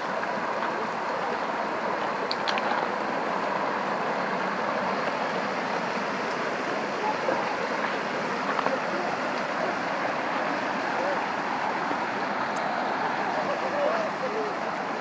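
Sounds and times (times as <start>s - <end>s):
stream water flowing over rocks: 0.0s - 15.0s.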